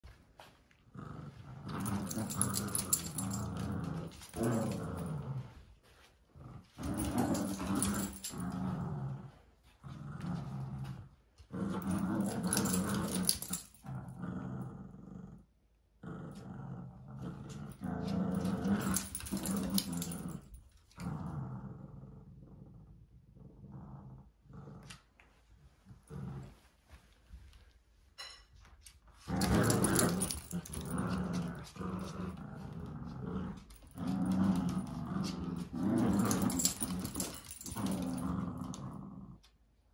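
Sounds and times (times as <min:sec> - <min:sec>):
dogs play-growling: 0:00.1 - 0:27.1, 0:29.2 - 0:39.6.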